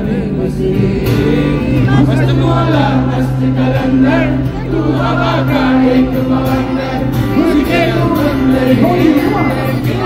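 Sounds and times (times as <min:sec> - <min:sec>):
acoustic guitar: 0:00.0 - 0:10.0
man singing: 0:00.0 - 0:10.0.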